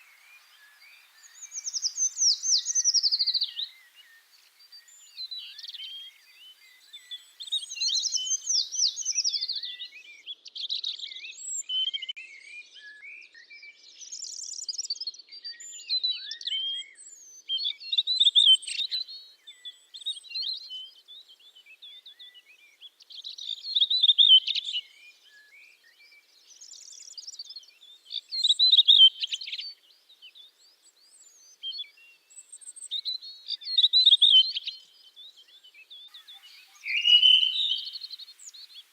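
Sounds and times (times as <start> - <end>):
songbirds chirping and trilling: 0.0 - 10.4, 17.2 - 38.9.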